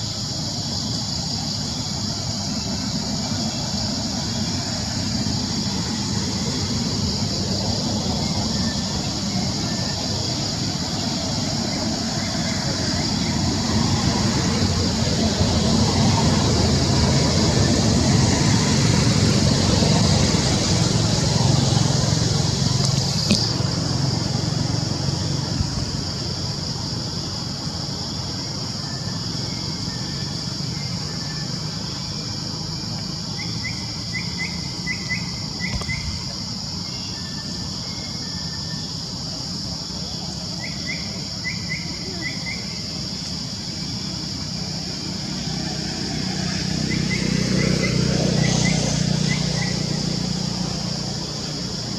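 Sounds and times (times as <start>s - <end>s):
steady high hiss: 0.0s - 47.8s.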